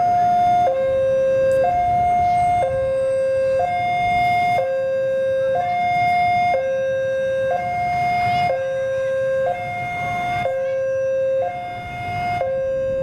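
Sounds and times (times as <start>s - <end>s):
level crossing two-tone alarm: 0.0s - 13.0s
locomotive diesel rumble: 0.0s - 13.0s.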